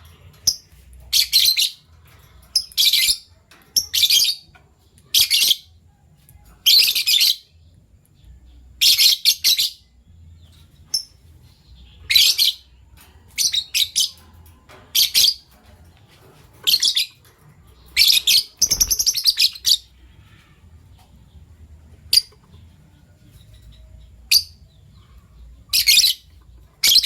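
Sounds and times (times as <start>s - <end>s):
lovebirds chirping: 0.0s - 27.0s.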